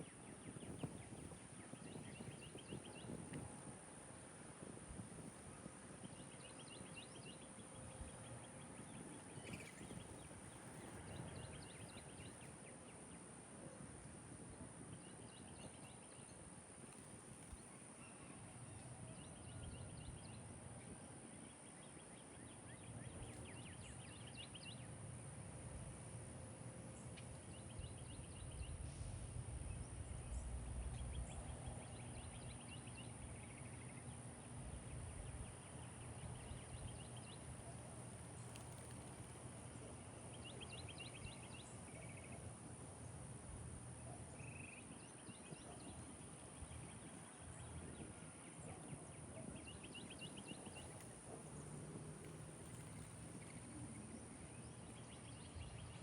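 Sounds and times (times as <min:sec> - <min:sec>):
faint high whine: 0:00.0 - 0:56.0
songbirds chirping: 0:00.0 - 0:56.0.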